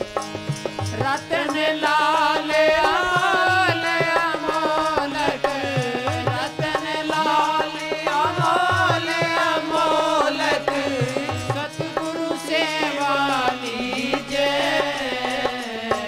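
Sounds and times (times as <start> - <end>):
tabla strokes: 0.0 - 16.0.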